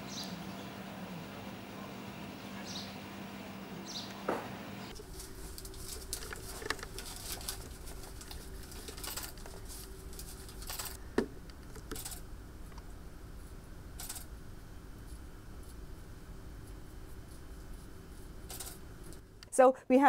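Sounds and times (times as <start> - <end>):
lab equipment hum: 0.0 - 19.8.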